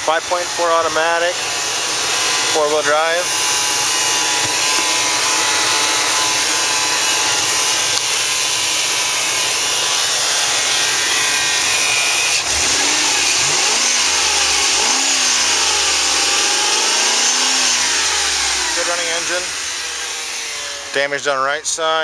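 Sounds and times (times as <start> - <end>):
engine running and revving: 3.3 - 21.1.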